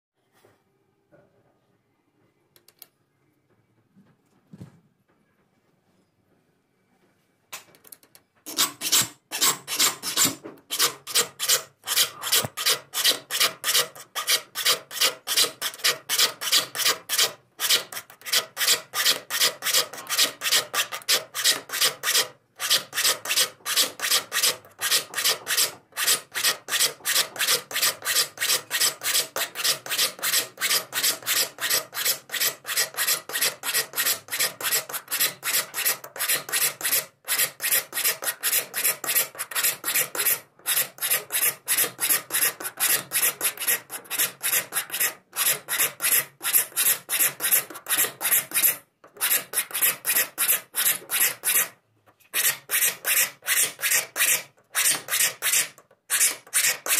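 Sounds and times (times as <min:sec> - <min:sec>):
file rasping on saw teeth: 0:08.5 - 0:51.8, 0:52.4 - 0:56.9.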